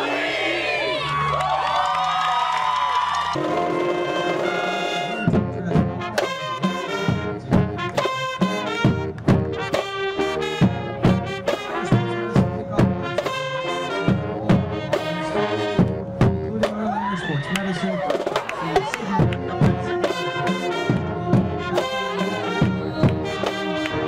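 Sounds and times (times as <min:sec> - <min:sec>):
brass chords: 0:03.4 - 0:16.8, 0:18.1 - 0:24.0.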